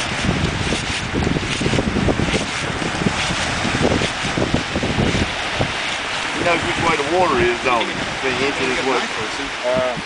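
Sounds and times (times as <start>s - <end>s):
surf on beach: 0.0s - 10.0s
wind buffeting microphone: 0.0s - 10.0s.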